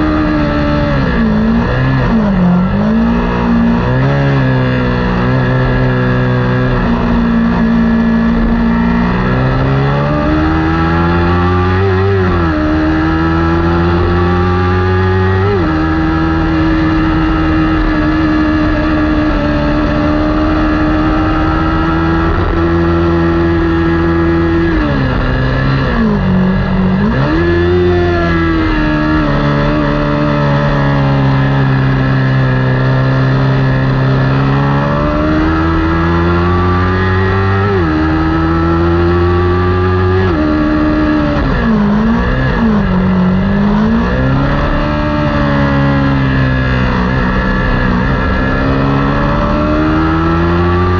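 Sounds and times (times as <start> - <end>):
motorcycle engine revving high: 0.0 - 50.9.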